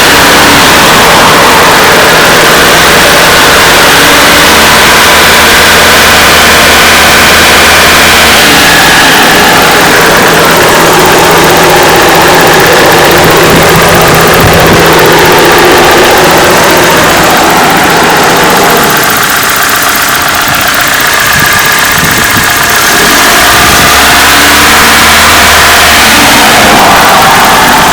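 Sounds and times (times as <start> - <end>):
car engine running with knock: 0.0 - 27.9.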